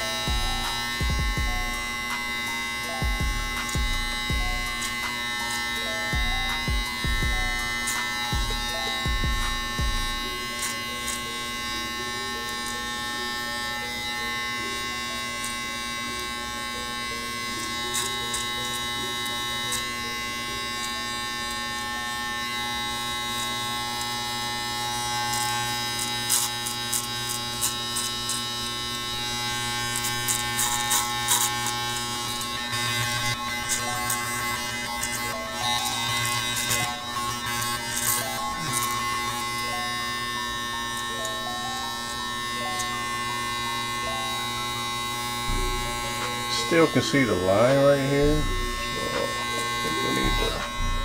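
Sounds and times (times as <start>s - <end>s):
electric hair clippers buzzing: 0.0s - 51.0s.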